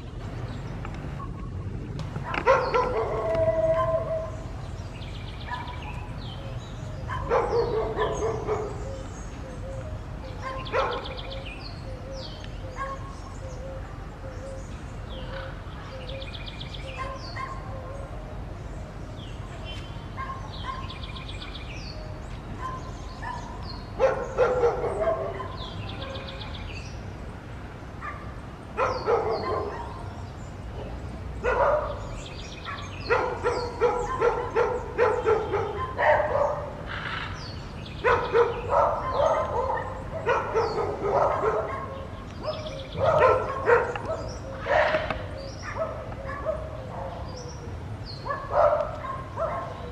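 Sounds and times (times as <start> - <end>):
birds chirping: 0.0 - 49.9
dogs barking: 1.2 - 4.6, 5.3 - 18.4, 20.1 - 21.3, 21.9 - 26.6, 28.0 - 49.9.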